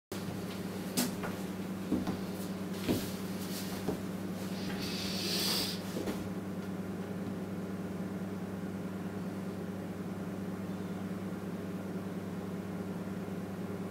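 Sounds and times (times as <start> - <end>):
low room hum: 0.2 - 13.9.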